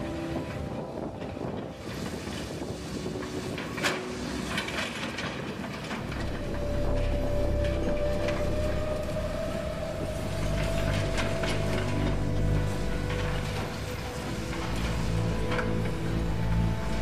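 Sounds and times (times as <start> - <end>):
excavator running: 0.0 - 17.0
train rumbling with whine: 0.0 - 17.0.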